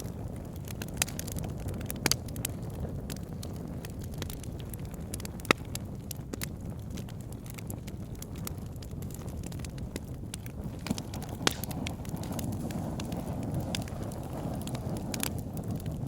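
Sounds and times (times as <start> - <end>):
fire rumbling: 0.0 - 16.0
wood crackling and popping: 0.0 - 16.0.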